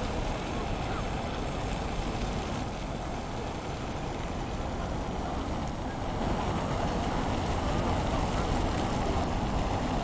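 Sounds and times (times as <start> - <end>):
city traffic rumble: 0.0 - 10.0.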